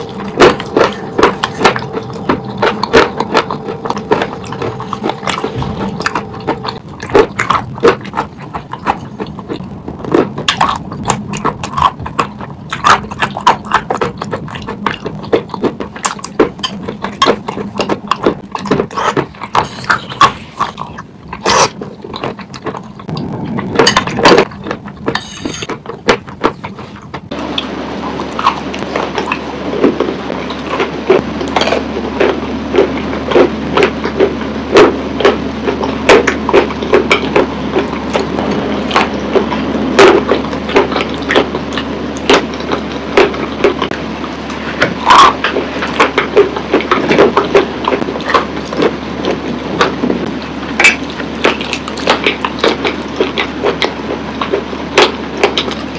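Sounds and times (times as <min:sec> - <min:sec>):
mouth clicks: 0:00.0 - 0:55.9
steady low hum: 0:00.0 - 0:55.9
wet crunching chewing: 0:00.0 - 0:55.9.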